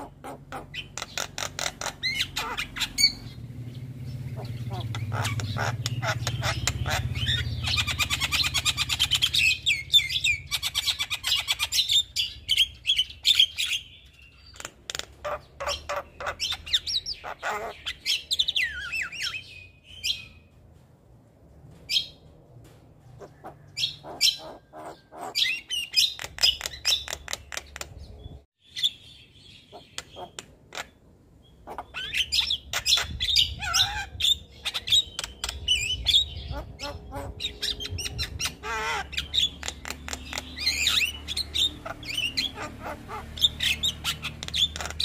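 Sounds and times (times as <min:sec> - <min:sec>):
myna bird chattering and whistling: 0:00.0 - 0:20.4, 0:23.2 - 0:45.0.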